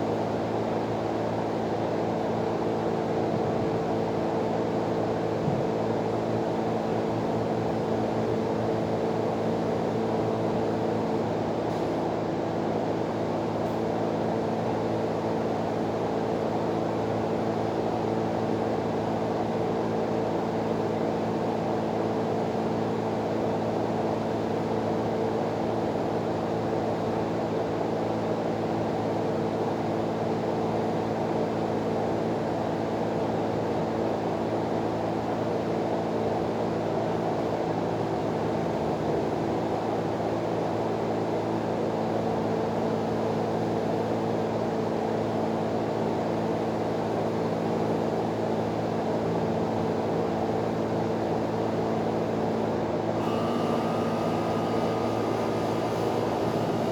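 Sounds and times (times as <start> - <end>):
low mechanical hum: 0.0 - 56.9.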